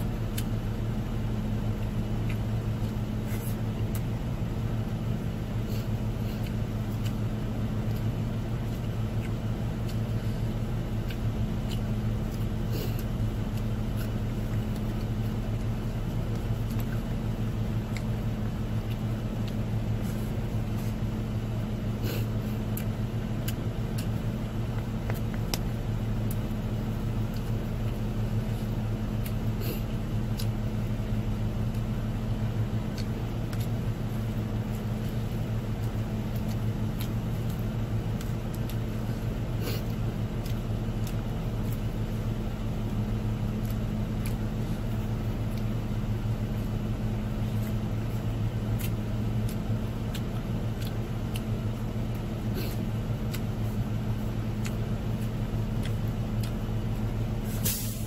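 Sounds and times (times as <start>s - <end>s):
car idling: 0.0s - 58.0s.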